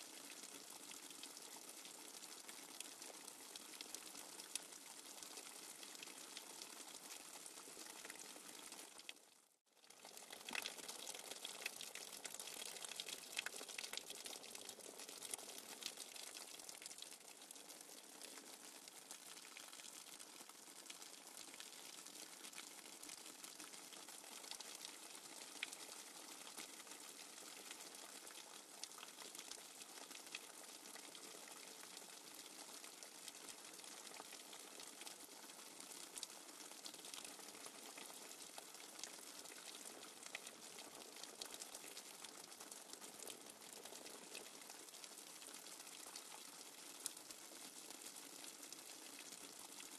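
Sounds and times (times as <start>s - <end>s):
rushing water with crackle: 0.0s - 9.2s, 9.8s - 49.9s.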